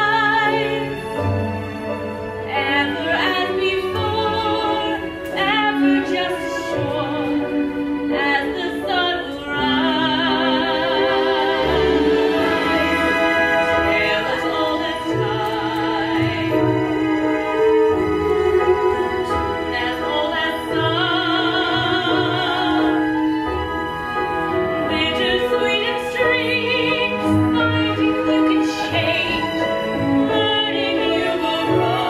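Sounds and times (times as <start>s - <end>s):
orchestral accompaniment: 0.0s - 32.0s.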